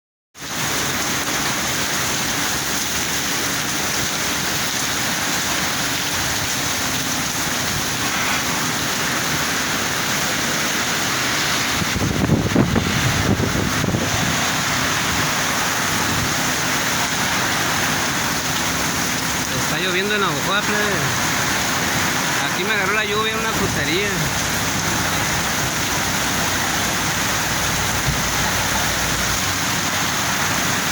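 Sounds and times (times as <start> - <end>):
heavy rain falling: 0.4 - 30.9.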